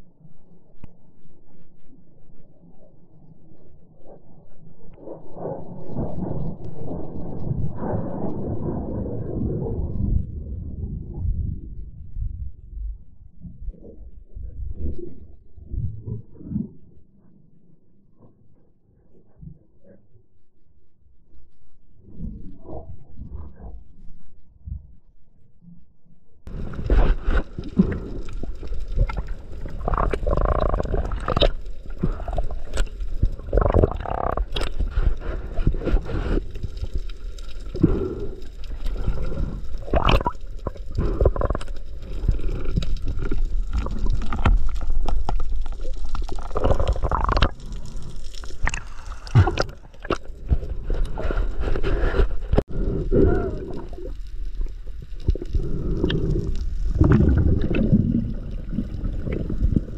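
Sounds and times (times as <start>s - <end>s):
underwater rumbling and gurgling: 0.0s - 59.9s.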